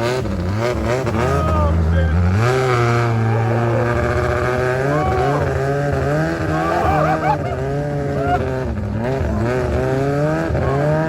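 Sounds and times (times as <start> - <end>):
boat engine running hard: 0.0 - 11.0.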